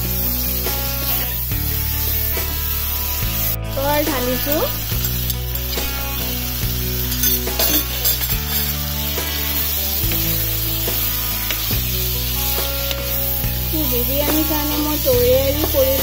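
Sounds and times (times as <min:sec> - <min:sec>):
background music with chords: 0:00.0 - 0:16.0
food sizzling in a pan: 0:00.0 - 0:16.0
spatula stirring food: 0:00.0 - 0:16.0.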